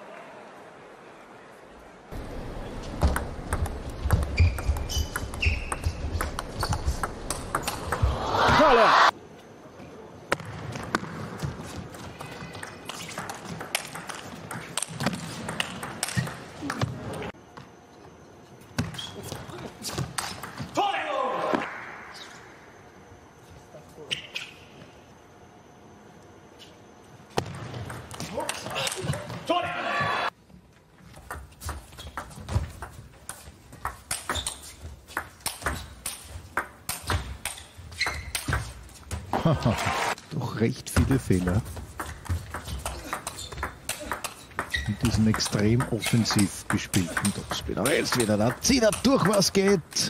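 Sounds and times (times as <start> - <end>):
arena background noise: 0.0 - 50.0.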